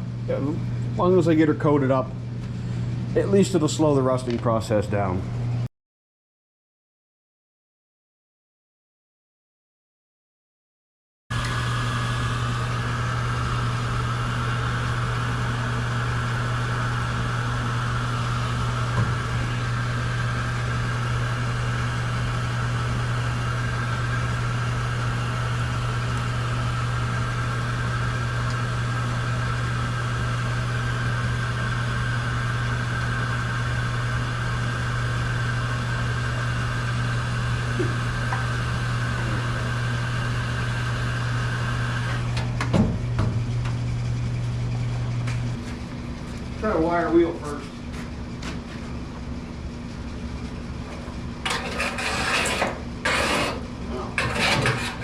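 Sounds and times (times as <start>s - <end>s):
electric motor hum and whine: 0.0s - 5.7s, 11.3s - 55.0s.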